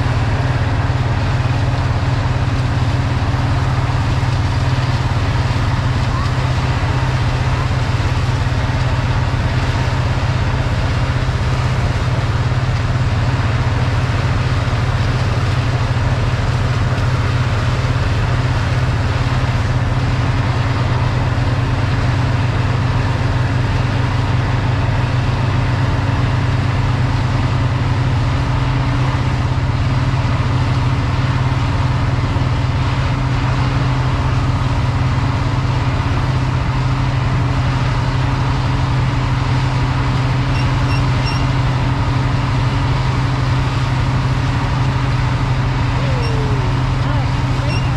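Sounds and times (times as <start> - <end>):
heavy engine humming steadily: 0.0 - 47.9.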